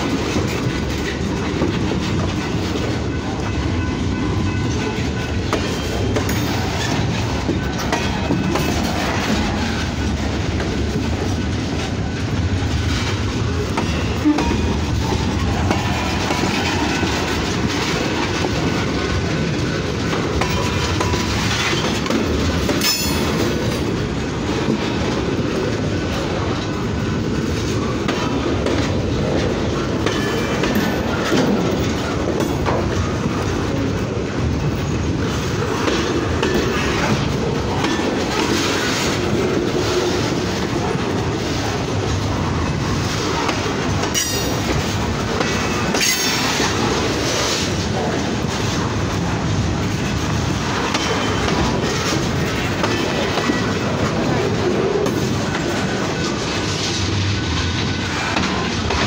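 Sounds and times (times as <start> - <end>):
wheels clicking over rail joints: 0.0 - 3.6, 4.5 - 59.0
train wheels rumbling on rail: 0.0 - 59.0.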